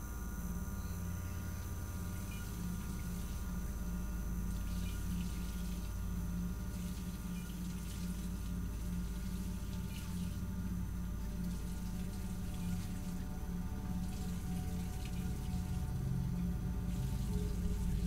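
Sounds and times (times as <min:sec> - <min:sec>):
low throbbing hum: 0:00.0 - 0:18.0.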